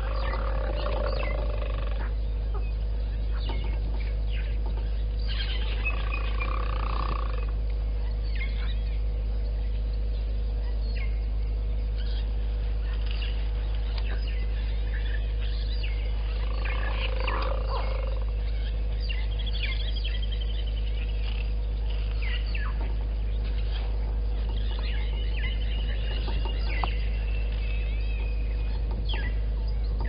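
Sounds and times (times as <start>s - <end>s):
constant low hum: 0.0s - 30.0s
rapid trilled bird call: 0.0s - 30.0s
wild birds chirping and calling: 0.0s - 30.0s.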